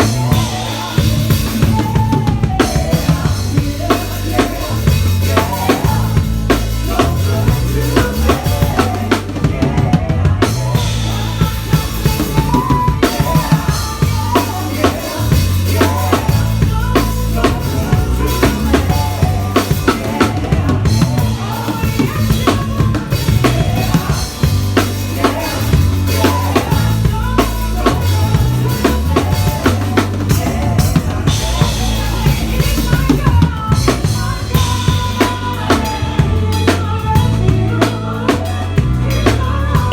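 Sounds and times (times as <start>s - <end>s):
bass line: 0.0s - 39.9s
drum kit groove: 0.0s - 39.9s.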